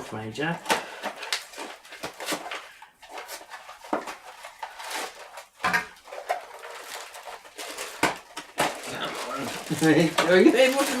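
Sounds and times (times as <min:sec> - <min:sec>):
cardboard boxes being torn open: 0:00.6 - 0:11.0.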